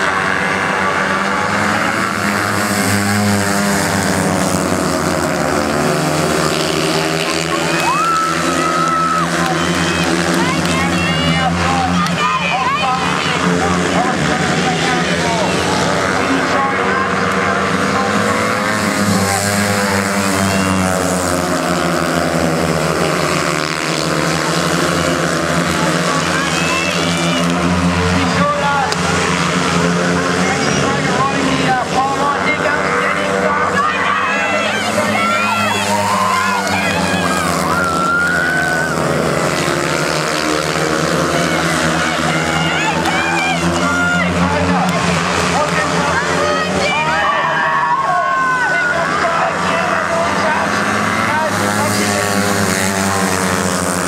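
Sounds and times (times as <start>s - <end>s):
motorcycle engines racing: 0.0s - 54.0s.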